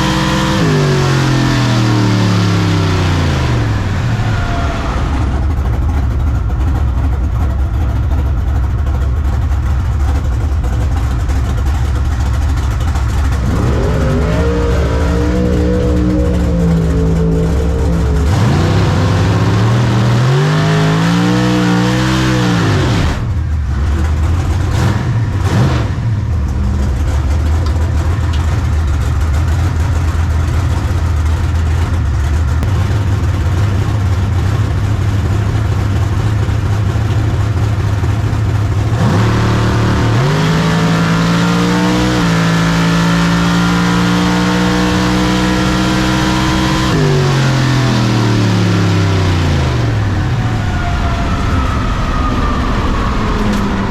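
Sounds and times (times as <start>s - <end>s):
drag racing engines roaring: 0.0s - 53.9s.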